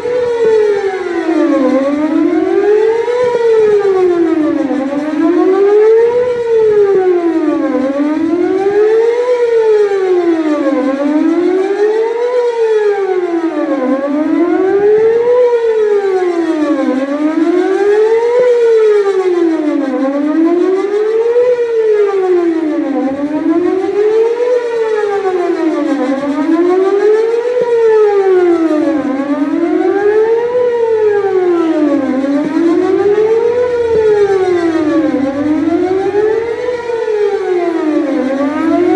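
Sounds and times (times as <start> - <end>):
electronic warning siren sweeping: 0.0 - 38.9.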